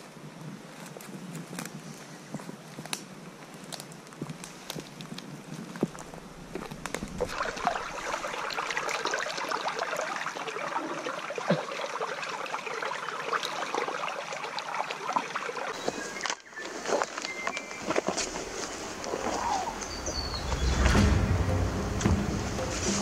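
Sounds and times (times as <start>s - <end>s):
stream trickling over rocks: 3.6s - 23.0s.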